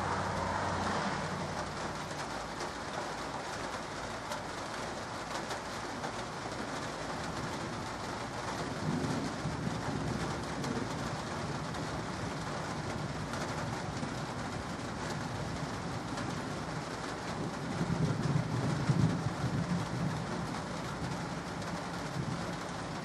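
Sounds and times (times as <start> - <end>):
light rain falling: 0.0 - 23.0.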